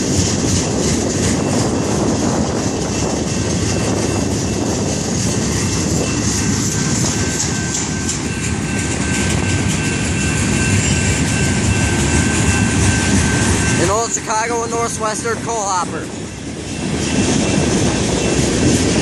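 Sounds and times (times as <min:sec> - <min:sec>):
steel wheels clattering on rails: 0:00.0 - 0:19.0.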